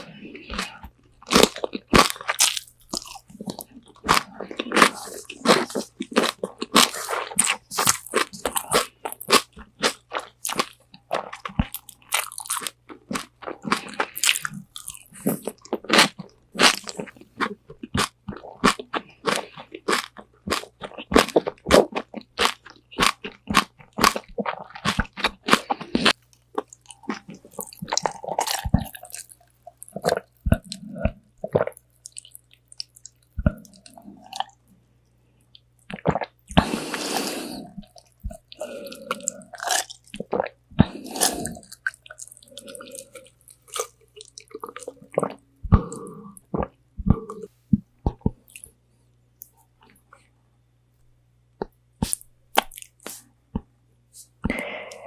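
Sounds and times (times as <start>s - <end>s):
crunchy chewing of fried chicken: 0.0s - 34.6s, 35.4s - 46.7s.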